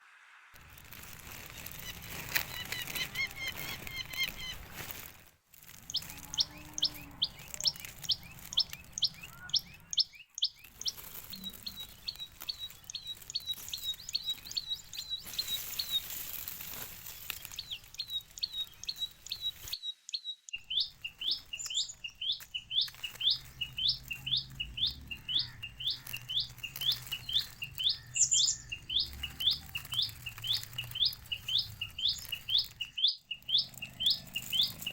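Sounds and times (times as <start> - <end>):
bird chicks chirping: 0.7 - 5.1, 5.7 - 34.9.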